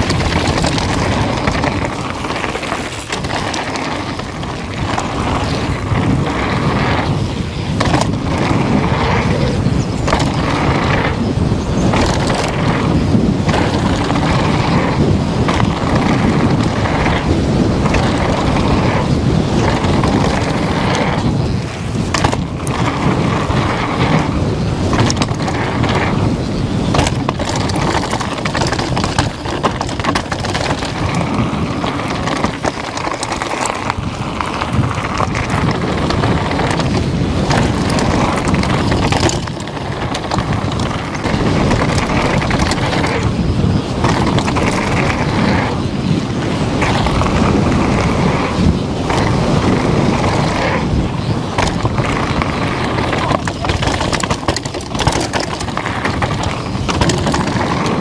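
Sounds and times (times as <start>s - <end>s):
bike clattering over bumps: 0.0s - 58.0s
bike tyres rolling over rock: 0.0s - 58.0s
wind buffeting microphone: 0.0s - 58.0s.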